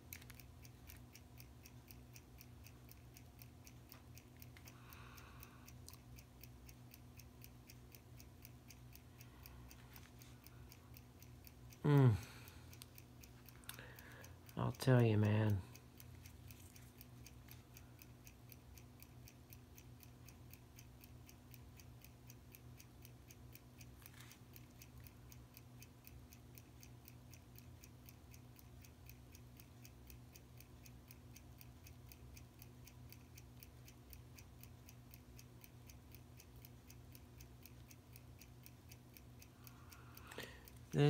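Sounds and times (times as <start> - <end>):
fast faint clock ticking: 0.0 - 41.0
low steady hum: 0.0 - 41.0.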